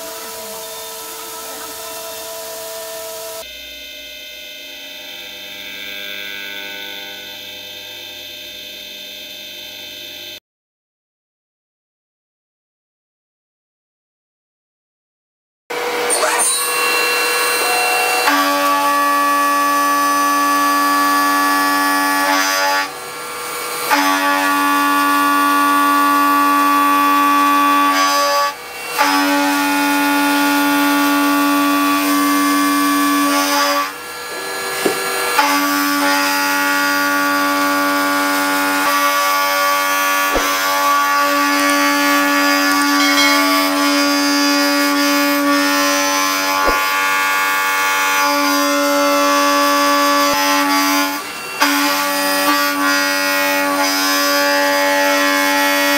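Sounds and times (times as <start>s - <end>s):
milling machine cutting steel: 0.0s - 3.9s, 4.5s - 8.2s, 15.8s - 55.9s.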